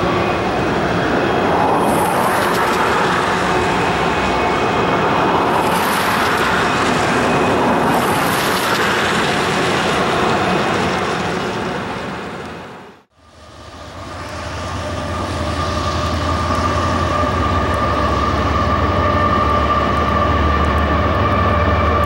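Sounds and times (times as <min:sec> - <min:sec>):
cars passing on road: 0:00.0 - 0:22.0
freight train wheels rumbling: 0:00.0 - 0:22.0.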